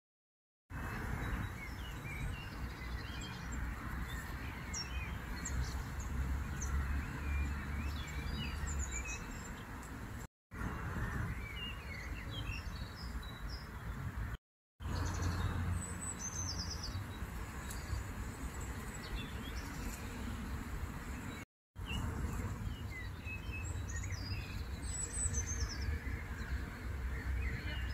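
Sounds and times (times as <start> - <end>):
small birds chirping: 0.8 - 10.3, 11.0 - 14.2, 14.8 - 27.9.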